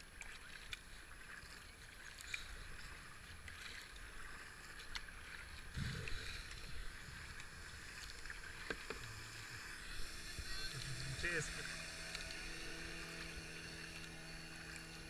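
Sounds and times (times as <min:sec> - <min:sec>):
paddle splashing in water: 0:00.0 - 0:15.0.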